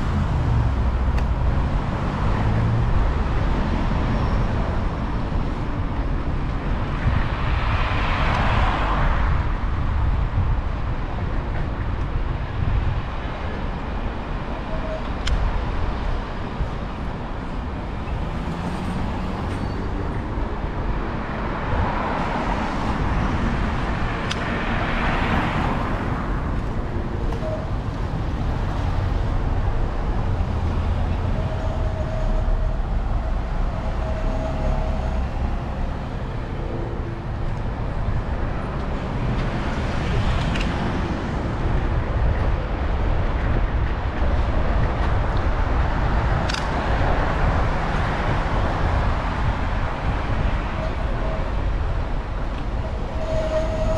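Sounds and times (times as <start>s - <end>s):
cars passing close by: 0.0s - 10.6s, 15.6s - 53.9s
low rumble of road noise: 0.0s - 53.9s.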